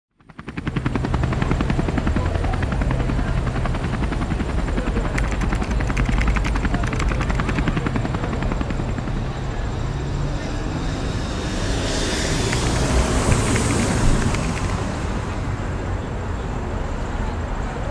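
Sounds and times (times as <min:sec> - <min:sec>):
helicopter rotor beating: 0:00.2 - 0:16.3.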